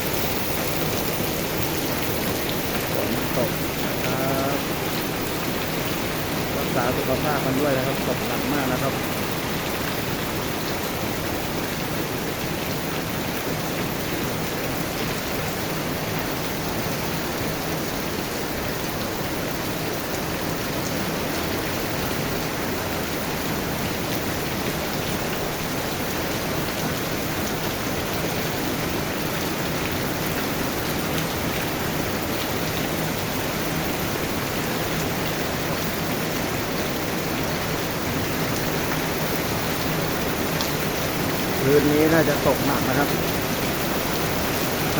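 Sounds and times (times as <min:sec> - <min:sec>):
heavy rain downpour: 0:00.0 - 0:44.9.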